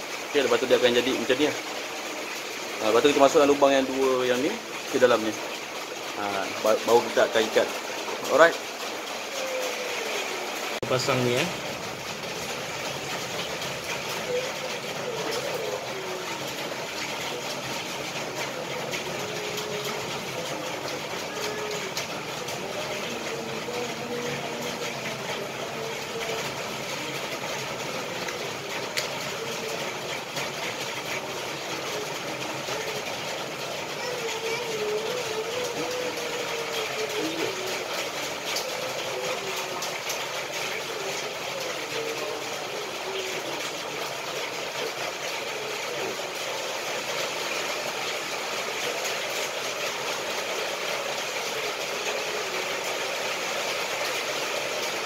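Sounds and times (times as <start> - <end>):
mechanical hum: 0.0 - 55.0.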